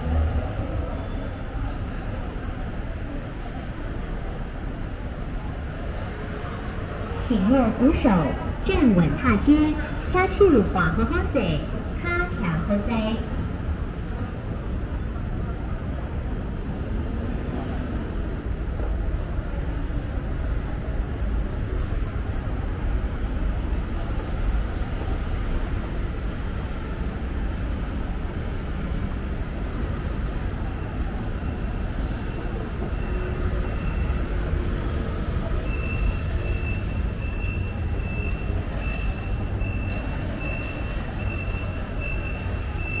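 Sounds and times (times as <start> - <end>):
low rumble in station: 0.0 - 43.0.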